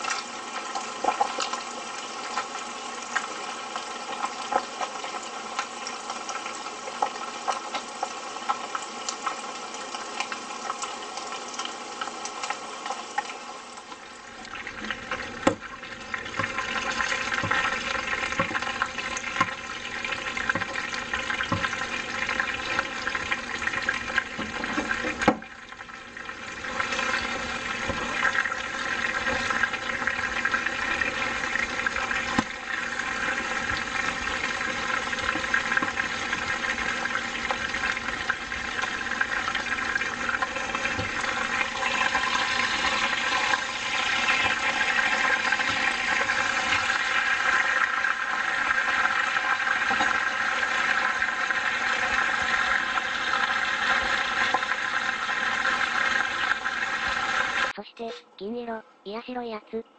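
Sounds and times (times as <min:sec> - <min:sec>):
chicken sizzling in oil: 0:00.0 - 0:58.2.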